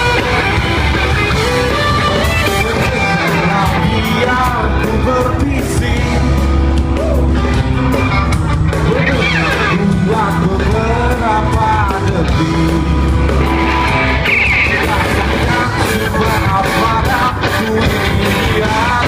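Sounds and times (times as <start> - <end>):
person singing: 0.0 - 7.6, 8.7 - 19.0
bass: 0.0 - 19.0
electric guitar: 0.0 - 19.0.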